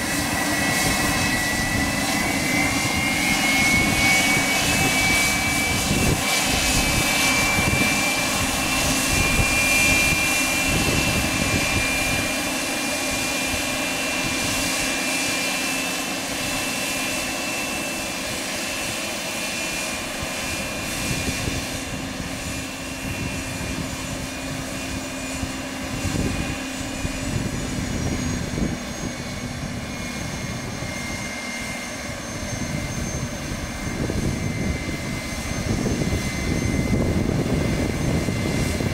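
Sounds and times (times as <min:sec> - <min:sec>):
jet engines whining at taxi power: 0:00.0 - 0:38.9.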